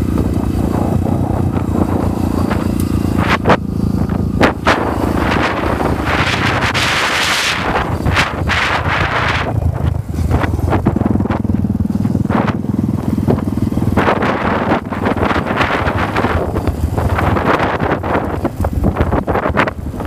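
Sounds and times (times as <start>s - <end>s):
dirt bike engine running: 0.0s - 20.0s
wind buffeting microphone: 0.0s - 20.0s.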